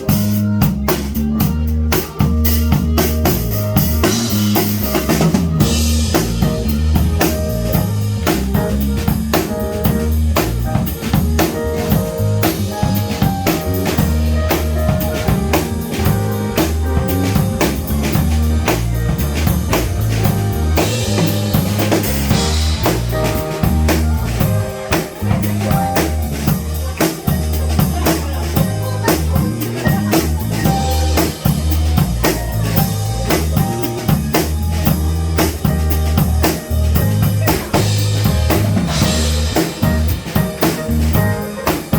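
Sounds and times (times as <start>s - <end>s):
bass line: 0.0s - 41.9s
drum kit beat: 0.0s - 41.9s
jazz-funk band playing: 0.0s - 41.9s.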